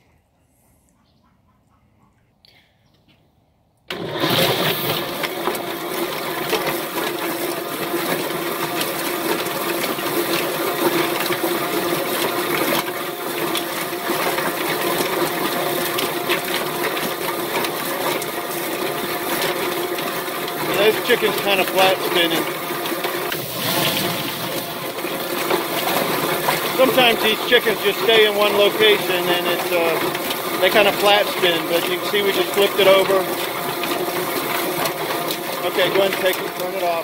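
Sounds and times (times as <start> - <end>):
motor hum: 3.8 - 37.0
hose water spraying into drum: 3.9 - 37.0.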